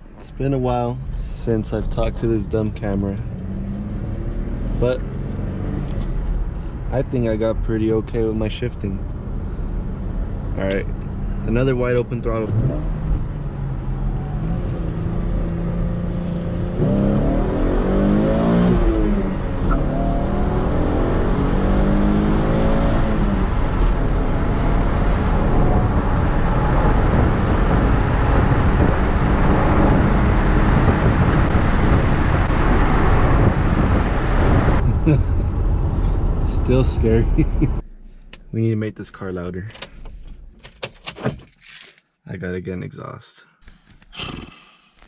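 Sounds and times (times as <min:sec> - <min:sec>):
road and wind noise: 0:00.0 - 0:38.6, 0:39.2 - 0:42.0
car engine accelerating: 0:00.0 - 0:39.2.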